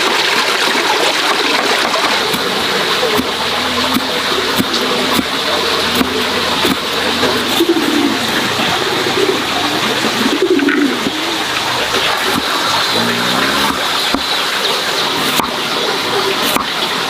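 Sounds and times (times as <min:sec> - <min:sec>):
dove cooing: 0:01.8 - 0:16.6.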